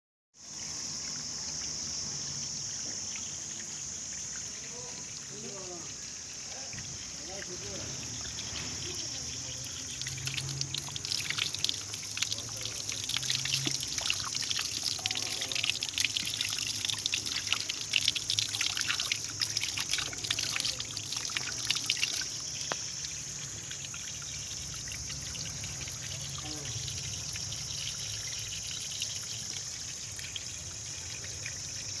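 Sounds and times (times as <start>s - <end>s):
water pouring and splashing: 0.4s - 32.0s.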